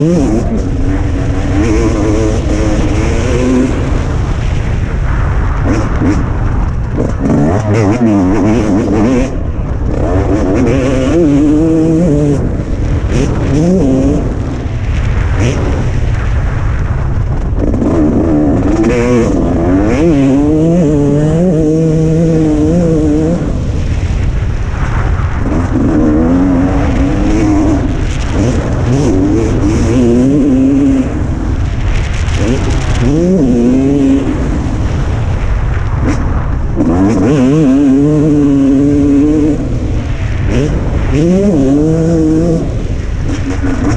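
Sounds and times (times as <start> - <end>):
motocross bike engine revving: 0.0 - 16.4, 17.6 - 24.2, 24.8 - 35.2, 35.9 - 43.9.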